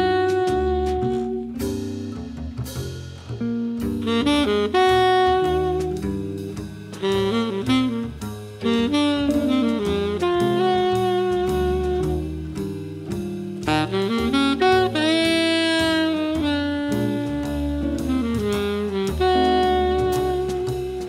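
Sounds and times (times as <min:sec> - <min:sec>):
saxophone melody: 0:00.0 - 0:02.4, 0:03.8 - 0:21.0
bass and drums: 0:00.0 - 0:21.0.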